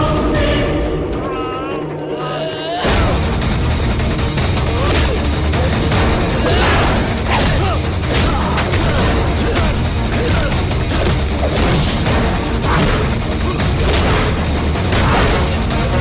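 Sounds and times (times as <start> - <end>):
low drone score: 0.0 - 16.0.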